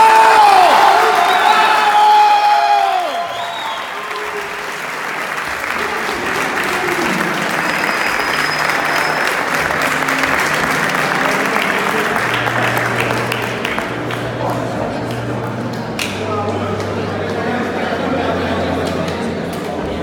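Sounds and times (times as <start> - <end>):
crowd clapping: 0.0 - 20.0.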